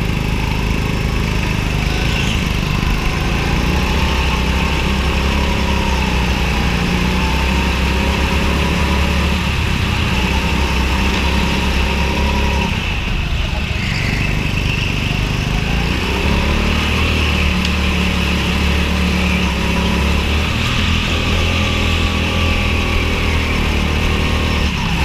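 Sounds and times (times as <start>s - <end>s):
go-kart engine running: 0.0s - 25.0s.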